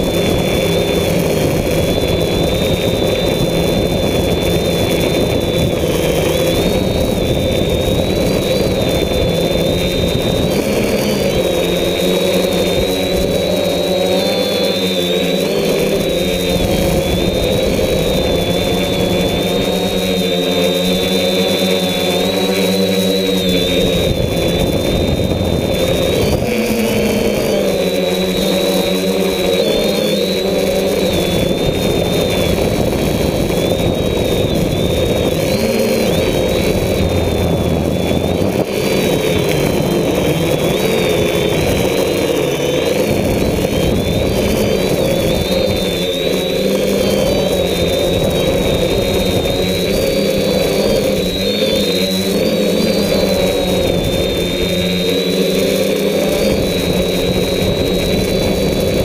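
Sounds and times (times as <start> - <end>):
drone motors whining: 0.0 - 59.0
wind rush on microphone: 0.0 - 59.0.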